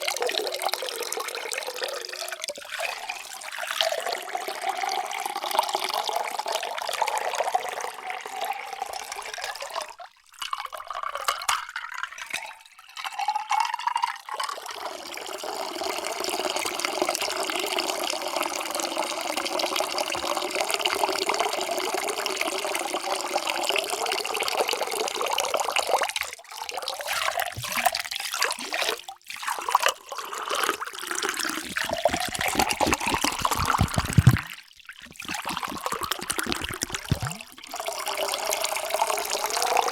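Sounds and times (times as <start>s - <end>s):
water poured into container: 0.0s - 39.9s.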